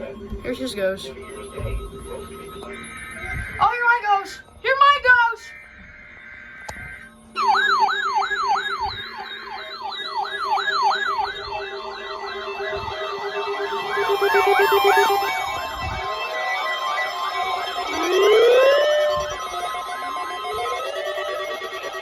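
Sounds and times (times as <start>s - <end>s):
electronic siren alarms: 0.0s - 22.0s.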